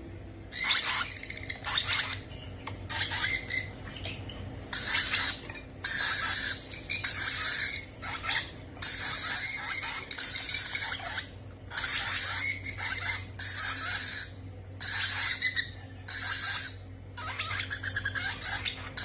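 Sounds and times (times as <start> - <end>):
baby parrots squawking: 0.5 - 2.3, 2.9 - 3.8, 4.7 - 19.0.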